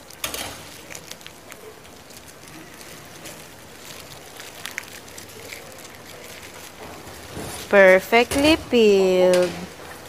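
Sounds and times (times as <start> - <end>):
eggshell crackling: 0.0 - 10.0
plastic gloves crinkling: 0.0 - 10.0.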